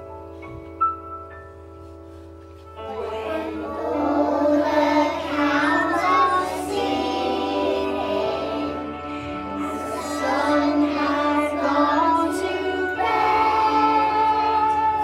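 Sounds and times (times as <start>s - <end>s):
musical accompaniment: 0.0s - 15.0s
young children singing: 2.8s - 15.0s.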